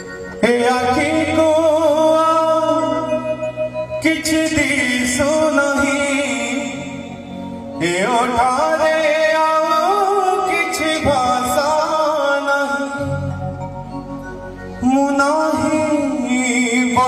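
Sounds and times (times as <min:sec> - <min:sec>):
man singing into microphone: 0:00.0 - 0:13.7, 0:14.8 - 0:17.0
instrumental backing music: 0:00.0 - 0:17.0.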